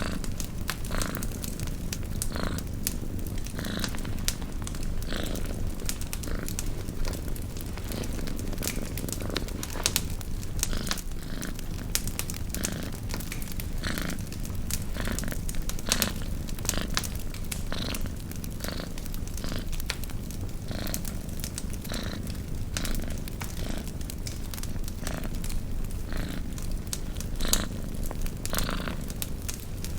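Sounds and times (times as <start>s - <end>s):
campfire crackling and popping: 0.0s - 29.9s
cat purring: 0.0s - 29.9s.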